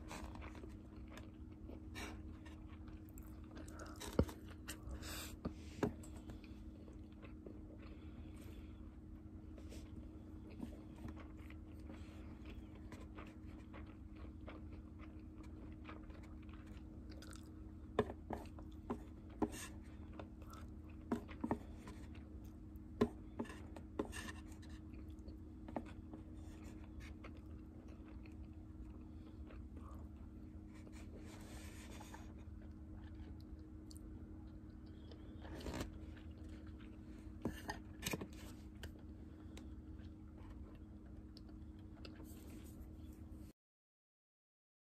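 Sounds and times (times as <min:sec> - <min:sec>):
quiet chewing: 0:00.0 - 0:43.5
steady low hum: 0:00.0 - 0:43.5.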